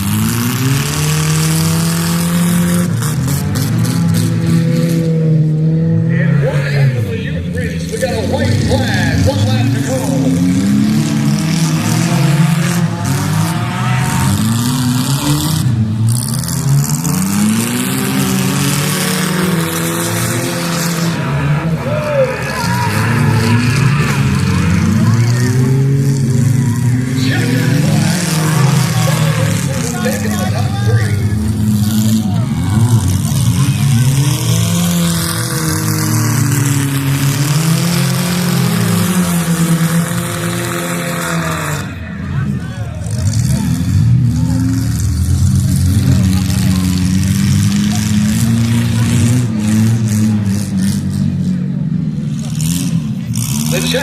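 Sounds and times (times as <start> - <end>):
race car engines revving: 0.0 - 54.0
track noise: 0.0 - 54.0.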